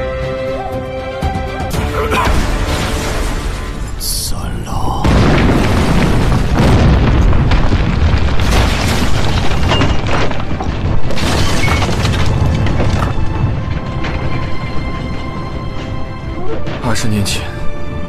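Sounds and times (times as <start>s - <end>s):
dramatic background music: 0.0s - 6.9s, 10.4s - 18.0s
sharp crashes: 2.0s - 17.5s
deep booming rumble: 2.2s - 18.0s.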